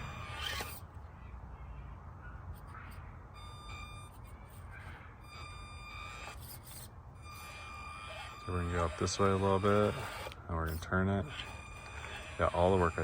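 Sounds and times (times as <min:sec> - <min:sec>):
small electric motor whining: 0:00.0 - 0:01.0, 0:02.5 - 0:13.0.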